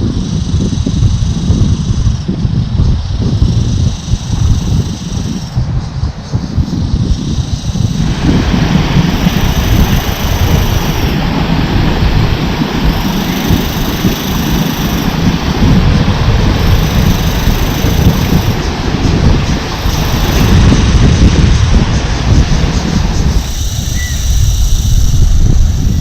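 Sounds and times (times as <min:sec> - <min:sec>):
loud low rumbling: 0:00.0 - 0:26.0.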